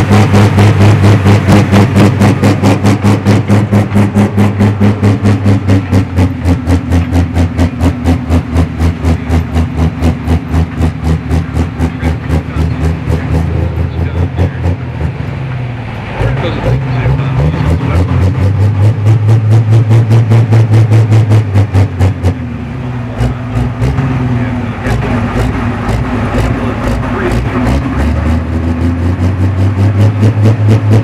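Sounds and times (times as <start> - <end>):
diesel engine pulsing under load: 0.0 - 31.0.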